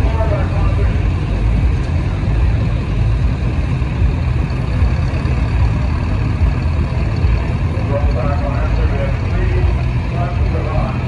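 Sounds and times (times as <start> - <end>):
second tractor engine running: 0.0 - 11.0
tractor engine idling loud: 0.0 - 11.0.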